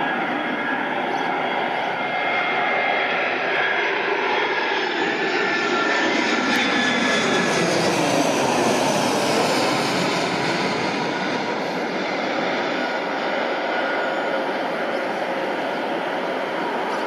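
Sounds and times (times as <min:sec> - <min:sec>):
jet airliner roaring overhead: 0:00.0 - 0:17.0.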